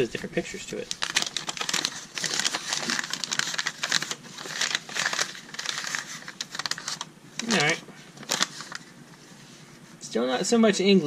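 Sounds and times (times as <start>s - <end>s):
paper leaflet rustling: 0.7s - 10.0s.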